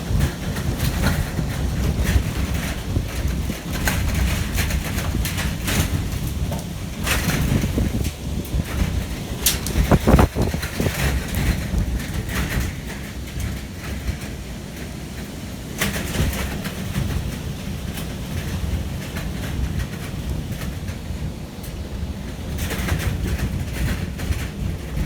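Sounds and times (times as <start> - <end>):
heavy rain: 0.0 - 25.0
storm wind gusting: 0.0 - 25.0
wind buffeting microphone: 0.0 - 25.0.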